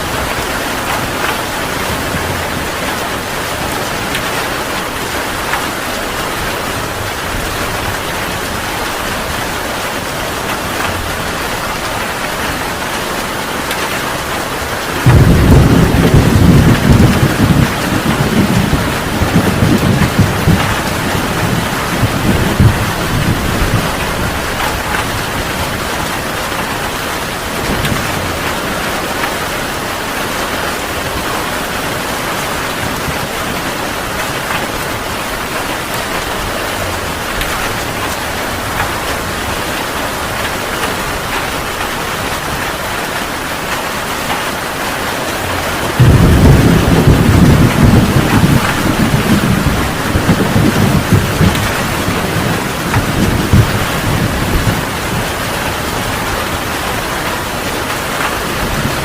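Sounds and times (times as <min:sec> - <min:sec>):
thunder rumbling: 0:00.0 - 0:44.0, 0:44.6 - 0:59.0
heavy rain falling: 0:00.0 - 0:59.0.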